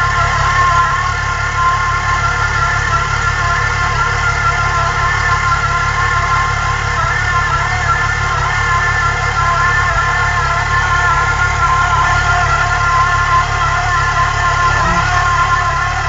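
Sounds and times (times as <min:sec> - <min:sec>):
car engine idling: 0:00.0 - 0:16.0
supercharger whine: 0:00.0 - 0:16.0.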